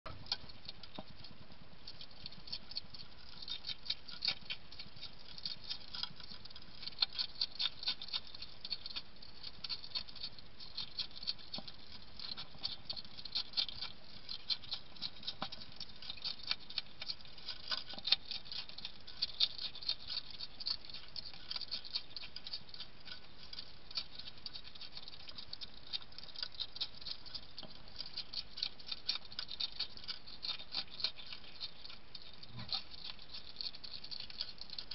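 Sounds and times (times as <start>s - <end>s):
hedgehog crunching biscuits: 0.1s - 34.9s.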